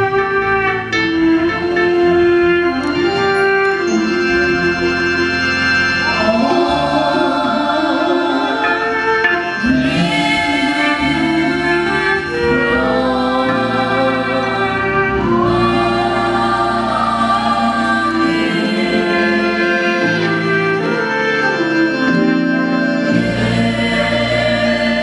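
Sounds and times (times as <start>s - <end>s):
choir singing gospel: 0.0s - 25.0s
electronic organ: 0.0s - 25.0s.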